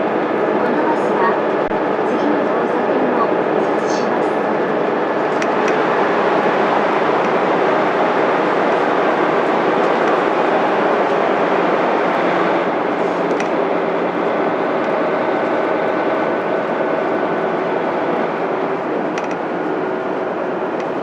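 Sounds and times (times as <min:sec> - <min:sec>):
bus diesel engine running: 0:00.0 - 0:21.0
road noise: 0:02.8 - 0:21.0.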